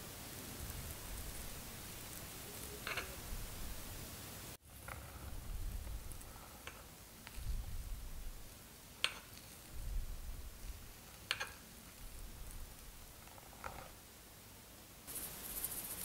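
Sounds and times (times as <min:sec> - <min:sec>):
faint low room rumble: 0:00.0 - 0:16.0.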